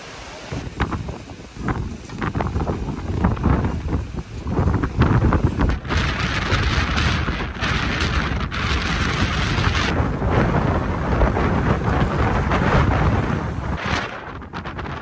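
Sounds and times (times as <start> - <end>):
hissing gust of wind: 0.0 - 15.0
wind buffeting microphone: 0.5 - 15.0.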